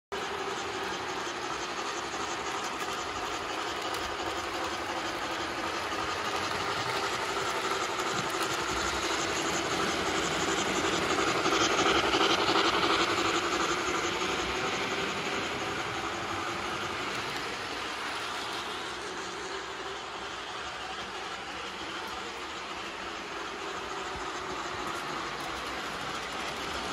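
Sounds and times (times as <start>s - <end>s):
model trains running on track: 0.1s - 26.9s.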